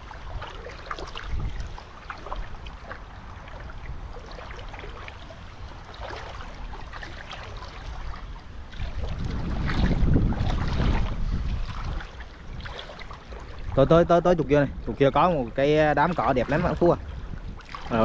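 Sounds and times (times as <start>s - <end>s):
small splashes: 0.0s - 13.9s, 16.0s - 18.0s
footsteps wading through water: 0.0s - 18.0s
wind rumble on microphone: 0.0s - 18.0s.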